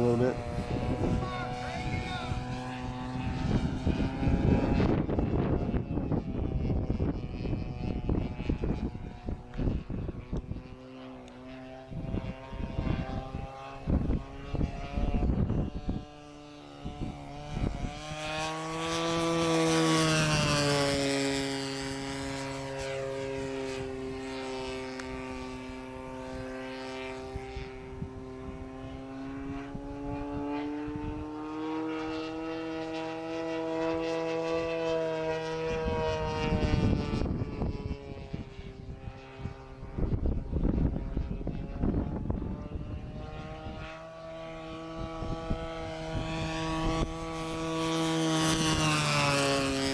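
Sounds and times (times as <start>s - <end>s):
model plane engine droning: 0.0s - 49.9s
wind buffeting microphone: 0.0s - 49.9s.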